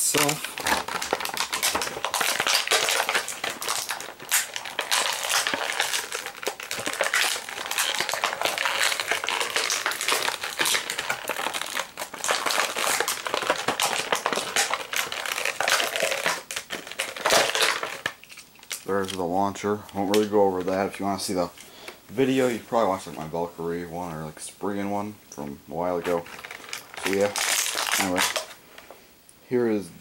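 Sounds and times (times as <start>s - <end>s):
plastic packaging crackling: 0.0s - 24.2s, 24.8s - 29.0s.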